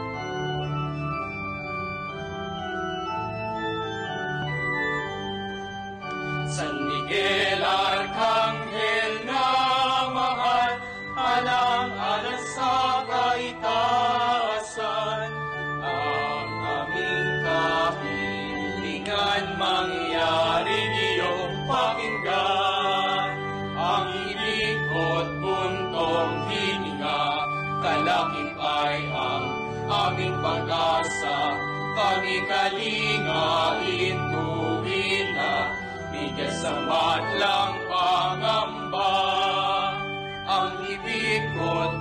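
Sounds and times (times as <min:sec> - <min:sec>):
hymn singing: 0:00.0 - 0:42.0
organ chords: 0:00.0 - 0:42.0.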